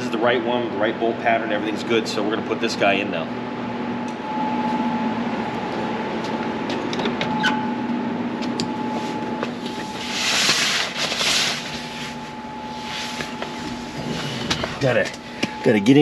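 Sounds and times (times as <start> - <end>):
air conditioner hum: 0.0 - 16.0.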